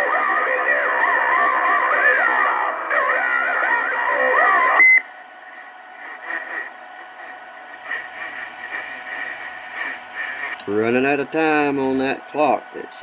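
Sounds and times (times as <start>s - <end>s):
faint radio static: 0.0s - 13.0s
radio transmission with sliding tones: 0.0s - 13.0s
weak distant radio signals: 0.0s - 13.0s.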